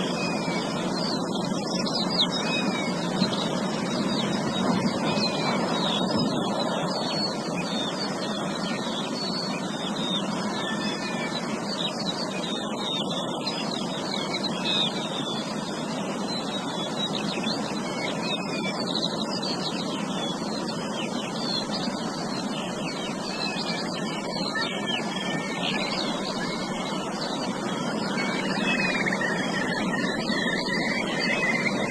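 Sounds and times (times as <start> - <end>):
many small birds chirping: 0.0 - 31.9
steady rushing noise: 0.0 - 31.9.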